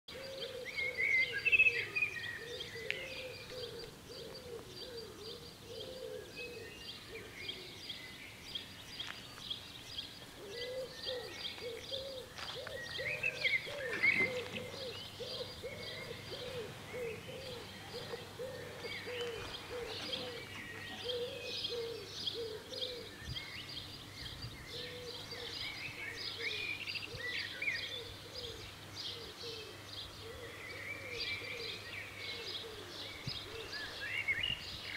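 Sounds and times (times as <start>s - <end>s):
low cooing call: 0.1s - 8.0s, 10.3s - 23.6s, 24.6s - 34.6s
birds chirping and singing: 0.1s - 34.9s.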